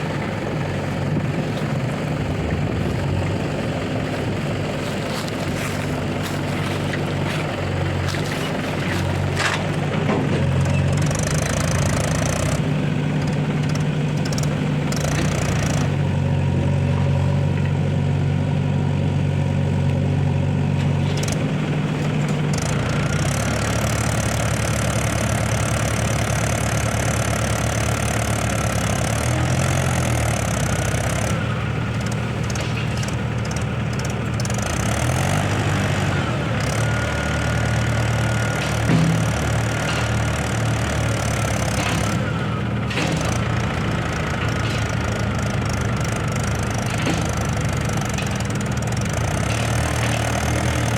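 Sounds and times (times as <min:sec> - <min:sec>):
heavy diesel engine running: 0:00.0 - 0:50.9.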